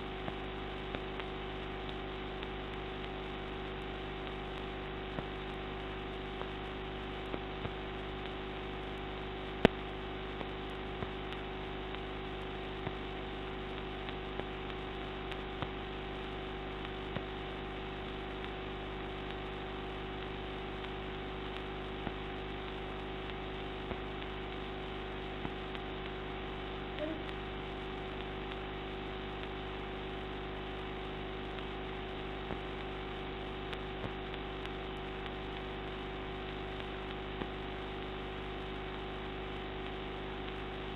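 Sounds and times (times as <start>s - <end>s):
electrical hum with hiss: 0.0s - 40.9s.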